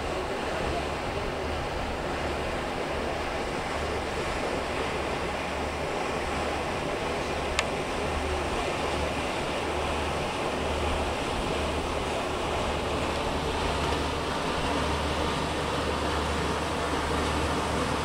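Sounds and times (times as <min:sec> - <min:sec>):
low engine drone: 0:00.0 - 0:18.0
rushing water from bow wake: 0:00.0 - 0:18.0.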